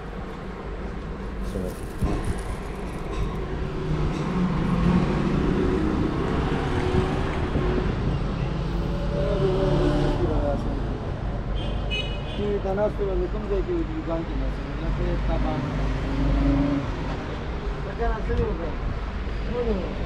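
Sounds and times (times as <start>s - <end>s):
low rumble of street traffic: 0.0s - 20.0s.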